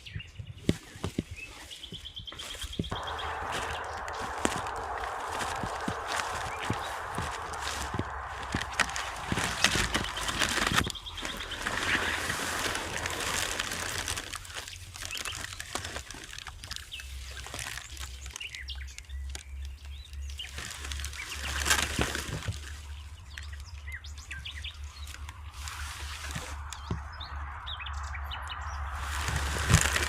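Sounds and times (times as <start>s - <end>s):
small birds chirping: 0.0s - 30.0s
rustling: 0.6s - 27.6s, 28.8s - 30.0s.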